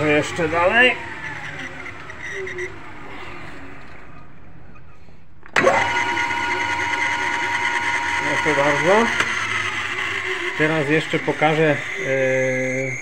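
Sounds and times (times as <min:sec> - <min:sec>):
electric motor whining: 0:00.0 - 0:04.0, 0:05.6 - 0:13.0.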